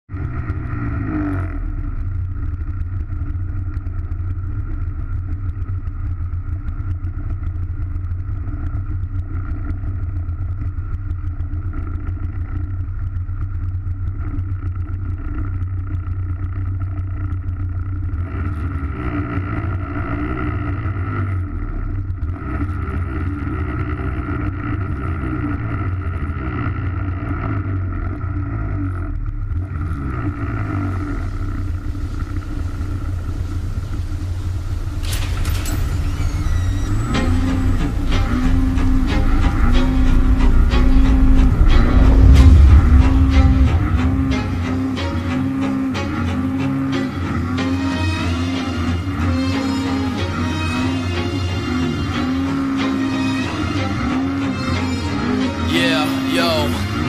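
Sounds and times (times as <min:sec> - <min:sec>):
snowmobile engine drone: 0:00.1 - 0:57.0.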